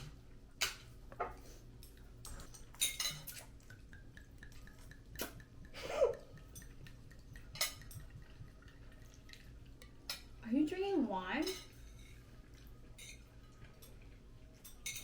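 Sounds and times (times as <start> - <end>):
utensils clinking against bowls: 0.6 - 10.4, 11.3 - 15.0.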